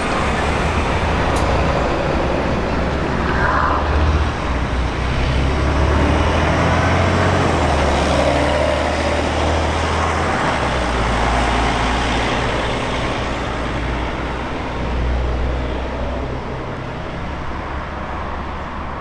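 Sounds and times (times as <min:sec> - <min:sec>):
bus engine drone: 0:00.0 - 0:19.0
road noise: 0:00.0 - 0:19.0.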